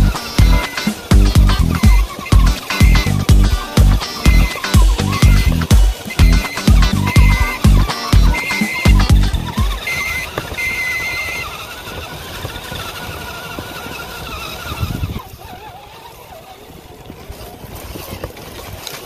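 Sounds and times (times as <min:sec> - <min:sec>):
electric motor and gears whining: 0:00.0 - 0:19.0
tyres working through snow: 0:00.0 - 0:19.0.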